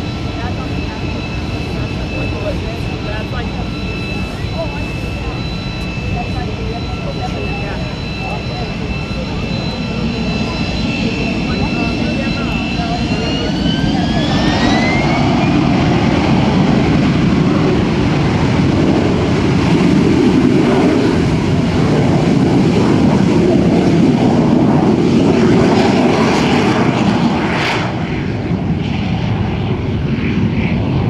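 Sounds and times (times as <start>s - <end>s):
jet engine roar: 0.0s - 31.0s.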